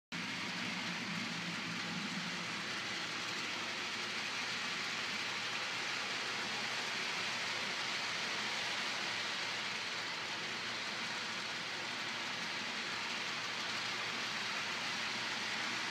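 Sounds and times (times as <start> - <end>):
model train wheels rolling: 0.2 - 15.9.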